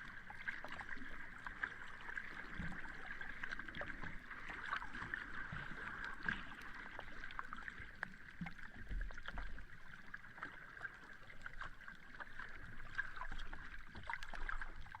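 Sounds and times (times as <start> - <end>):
low water rumble: 0.0 - 15.0
sea water lapping at shore: 0.0 - 15.0.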